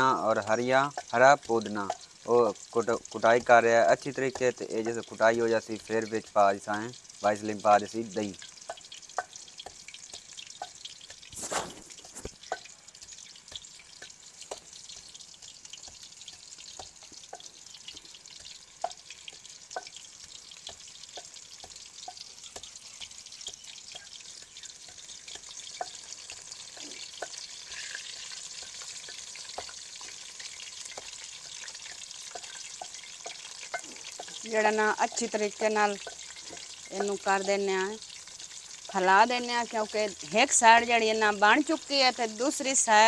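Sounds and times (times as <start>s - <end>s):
deep-frying sizzle in oil: 0.0s - 43.0s.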